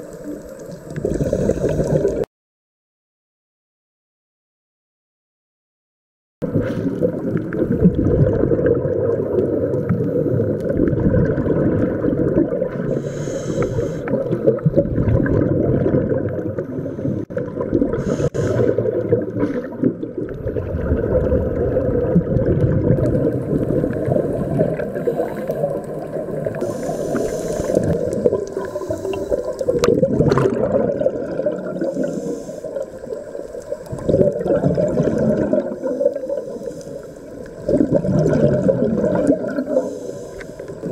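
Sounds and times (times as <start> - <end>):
gurgling regulator bubbles: 0.0 - 2.3, 6.4 - 40.9
muffled underwater rumble: 6.4 - 40.9.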